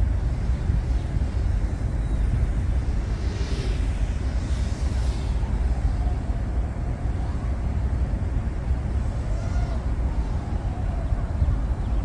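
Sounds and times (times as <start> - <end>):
wind rumble on microphone: 0.0 - 12.0
quadcopter propellers whirring: 0.2 - 12.0.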